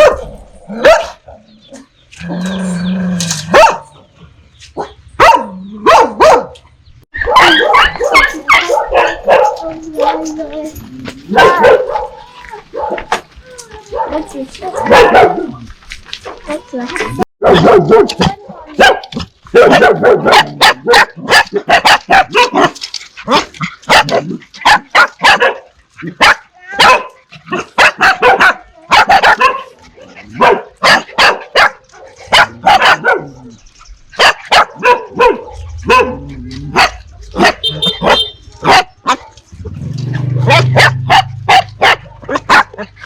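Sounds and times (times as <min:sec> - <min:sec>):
dogs barking: 0:00.0 - 0:01.9, 0:03.3 - 0:16.6, 0:17.4 - 0:43.0.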